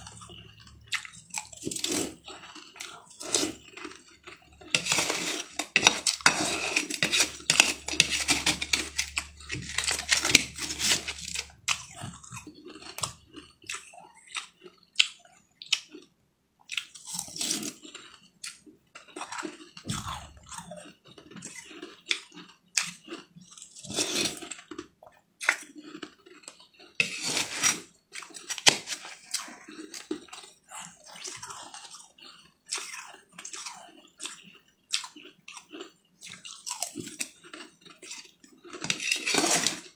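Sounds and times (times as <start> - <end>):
crunching ice: 0.0 - 14.7, 16.9 - 39.9.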